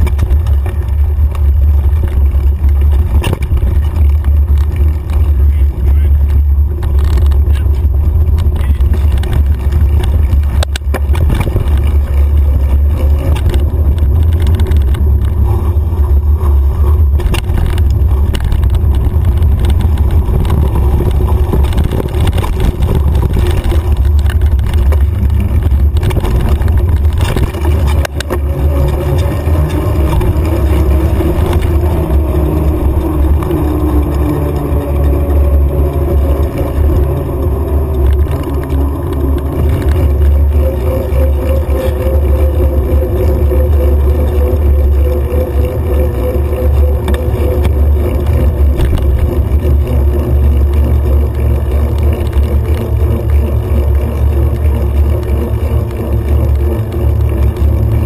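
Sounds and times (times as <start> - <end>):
tyres humming on pavement: 0.0 - 58.0
wind rumble on microphone: 0.0 - 58.0.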